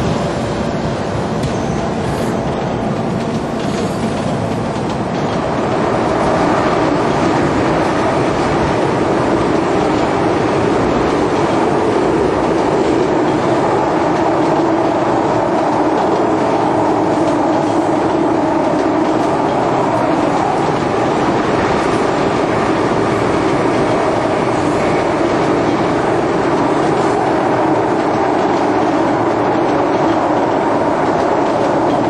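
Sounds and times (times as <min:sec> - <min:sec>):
train running on rails: 0:00.0 - 0:32.0.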